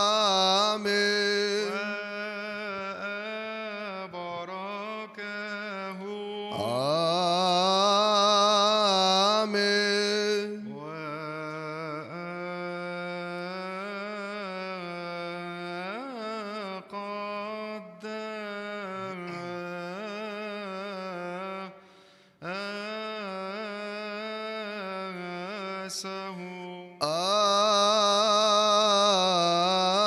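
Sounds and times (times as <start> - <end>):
man chanting liturgical melody: 0.0 - 21.8, 22.4 - 30.0.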